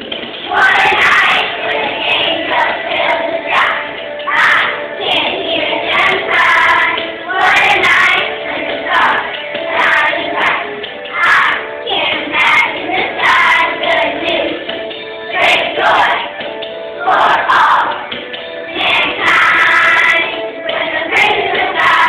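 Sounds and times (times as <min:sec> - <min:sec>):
music with steady beat: 0:00.0 - 0:22.0
children singing: 0:00.4 - 0:22.0.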